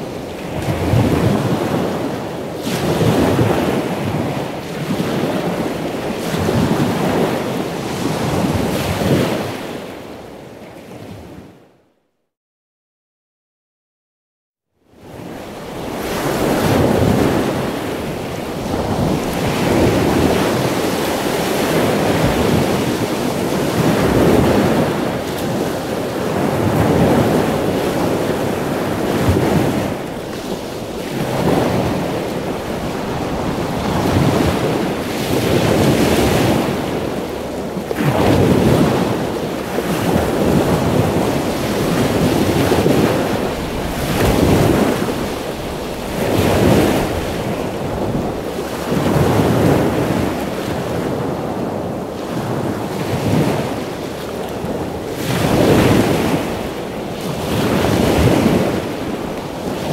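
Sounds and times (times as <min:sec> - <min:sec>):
ocean surf washing: 0:00.0 - 0:11.6, 0:14.9 - 0:59.9.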